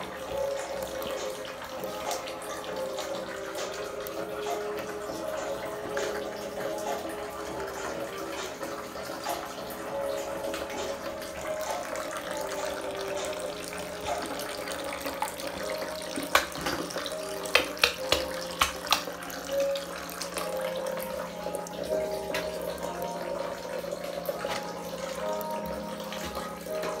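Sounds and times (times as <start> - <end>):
soft background music: 0.0 - 27.0.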